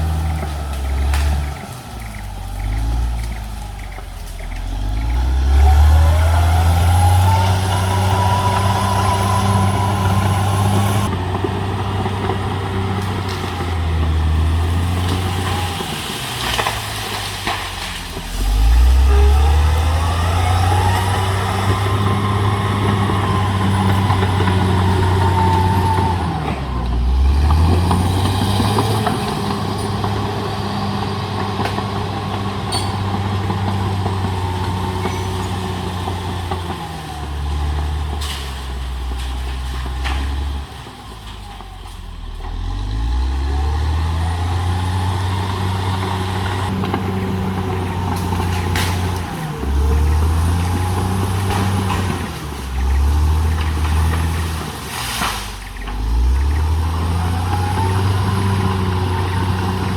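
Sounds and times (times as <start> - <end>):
rising engine whine: 0.0 - 38.5, 41.4 - 54.8
bulldozer diesel engine revving: 0.0 - 59.9.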